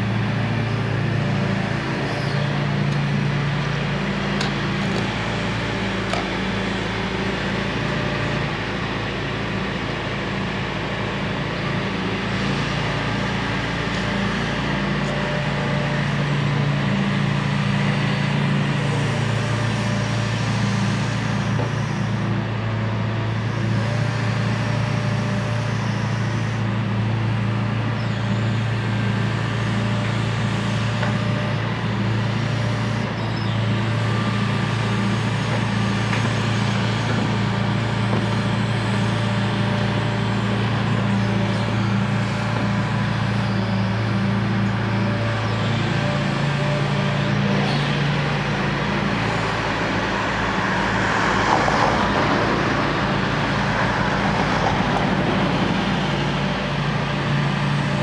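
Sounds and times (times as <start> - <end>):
excavator diesel engine running: 0.0 - 58.0
hydraulic working noise: 0.0 - 58.0.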